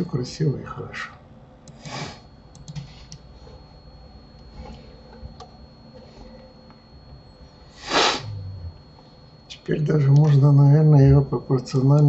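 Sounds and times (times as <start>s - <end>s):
faint high-pitched whine: 0.0s - 12.0s
low room noise: 0.0s - 12.0s.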